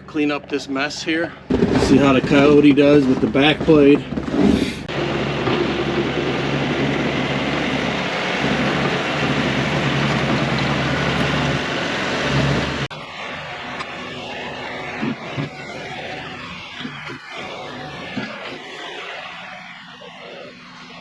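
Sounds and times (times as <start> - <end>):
tractor diesel engine running: 1.4 - 21.0.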